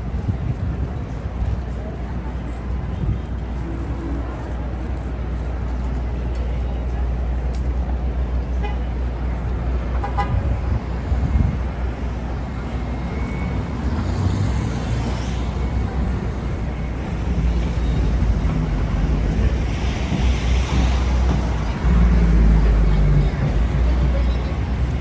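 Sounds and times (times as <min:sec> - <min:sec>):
city street traffic: 0:00.0 - 0:25.0
wind rumble on microphone: 0:00.0 - 0:25.0.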